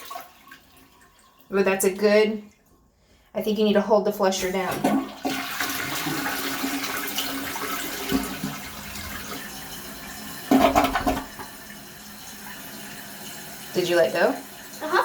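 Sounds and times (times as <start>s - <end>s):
toilet flushing: 0.0s - 2.4s, 4.3s - 15.0s.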